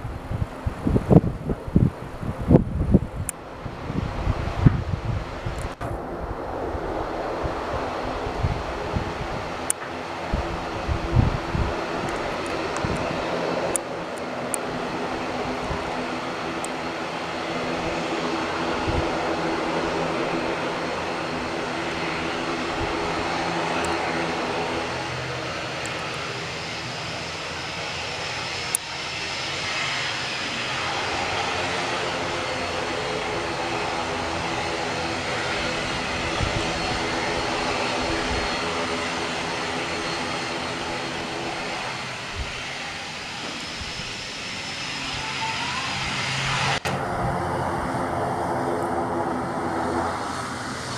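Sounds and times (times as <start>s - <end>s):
airliner engines passing overhead: 0.0s - 50.9s.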